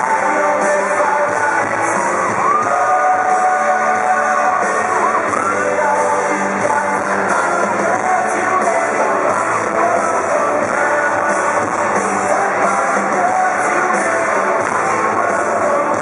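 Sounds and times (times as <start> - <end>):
electric guitar: 0.0 - 16.0
live pop-rock band: 0.0 - 16.0
person singing: 0.0 - 16.0.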